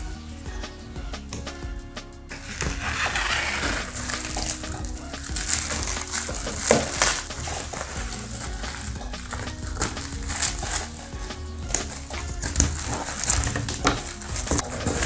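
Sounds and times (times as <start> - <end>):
plastic film crinkling: 2.3 - 15.0
scissors cutting plastic wrap: 2.3 - 15.0.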